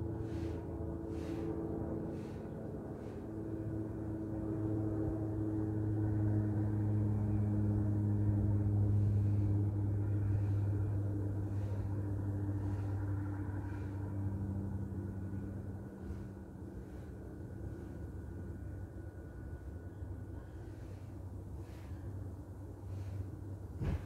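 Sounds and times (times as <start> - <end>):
distant engine drone: 0.0 - 24.0.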